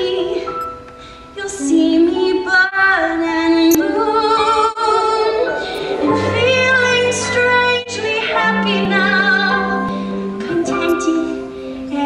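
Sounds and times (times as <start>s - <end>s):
woman singing a slow ballad: 0.0s - 0.6s, 1.4s - 12.0s.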